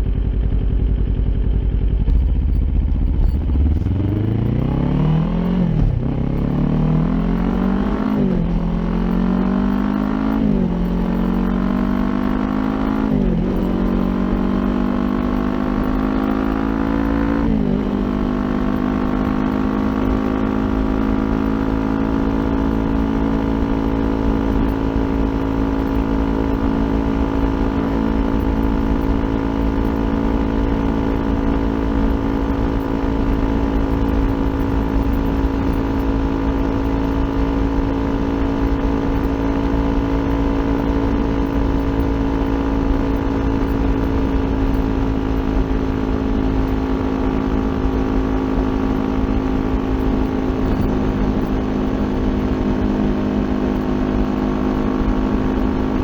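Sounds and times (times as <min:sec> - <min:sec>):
motorcycle engine cruising: 0:00.0 - 0:56.0
wind and road rumble: 0:00.0 - 0:56.0.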